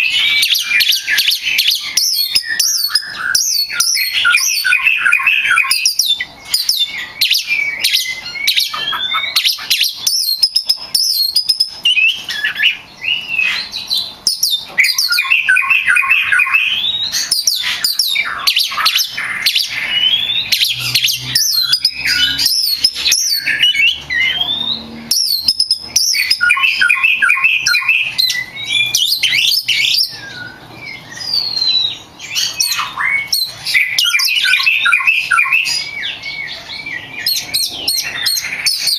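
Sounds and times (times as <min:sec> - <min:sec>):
songbird singing whistles and trills: 0:00.0 - 0:38.9.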